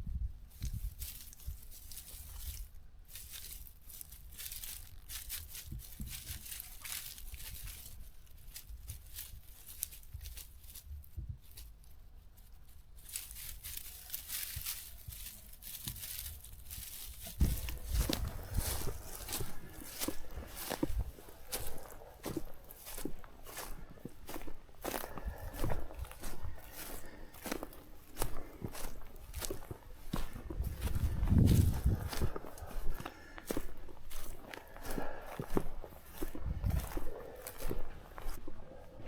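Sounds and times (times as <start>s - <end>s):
dry grass and brush rustling: 0.0s - 39.0s
footsteps crunching: 0.5s - 39.0s.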